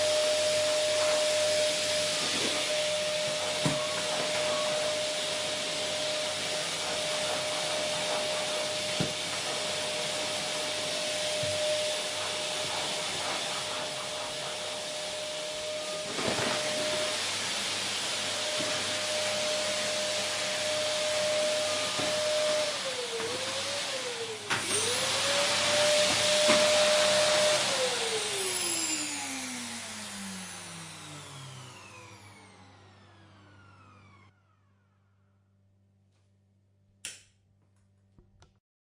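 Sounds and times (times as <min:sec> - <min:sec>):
vacuum cleaner running: 0:00.0 - 0:35.3.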